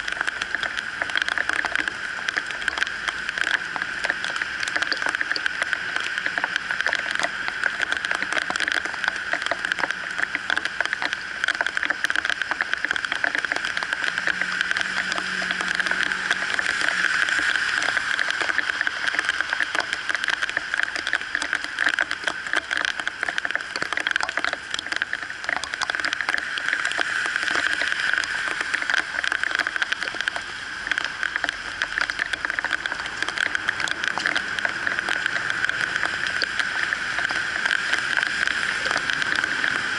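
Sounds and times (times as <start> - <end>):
heavy rain on wet road: 0.0 - 39.9
vehicles swishing through water: 0.0 - 39.9.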